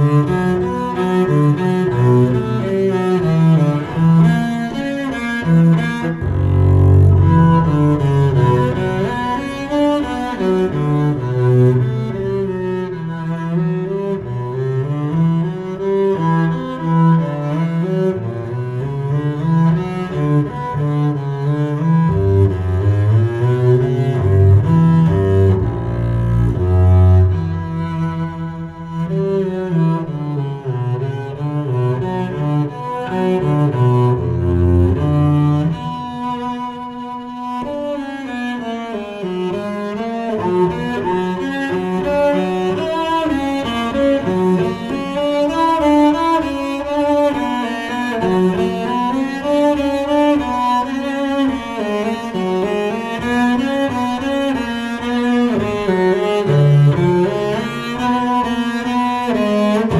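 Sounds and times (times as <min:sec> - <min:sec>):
bowed double bass melody: 0:00.0 - 0:59.9.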